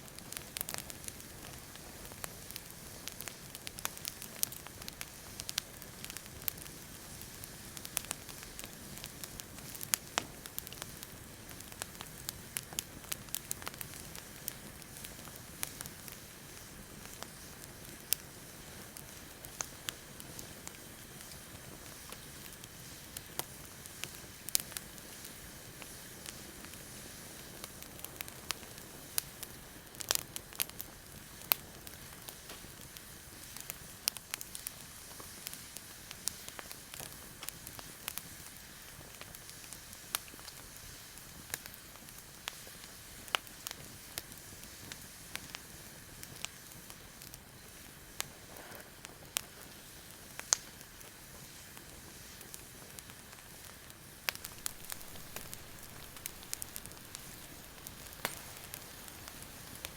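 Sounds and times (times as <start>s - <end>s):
fire soft steady hiss: 0.0s - 59.9s
campfire pops and snaps: 0.1s - 40.6s, 46.2s - 59.9s.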